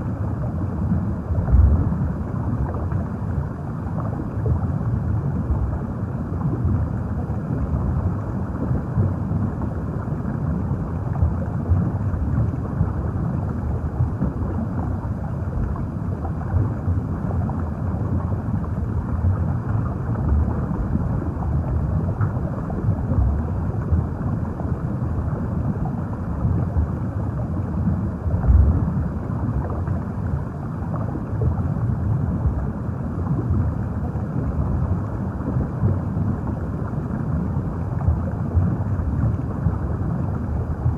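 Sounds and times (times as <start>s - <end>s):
underwater rumble of moving water: 0.0s - 40.9s.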